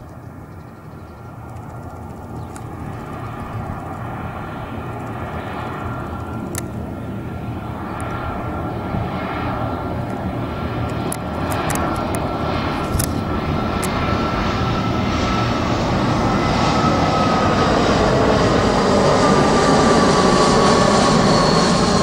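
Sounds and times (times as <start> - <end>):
airliner engine noise: 0.0 - 22.0.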